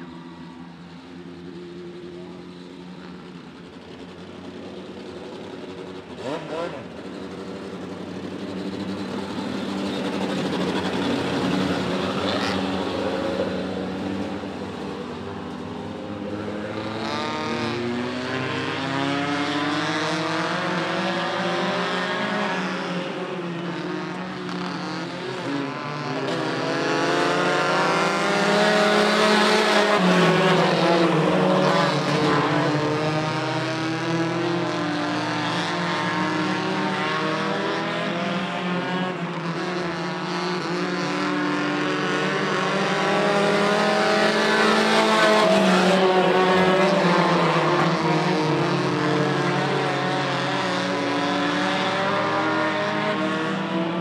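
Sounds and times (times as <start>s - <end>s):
race truck engines revving: 0.0s - 54.0s.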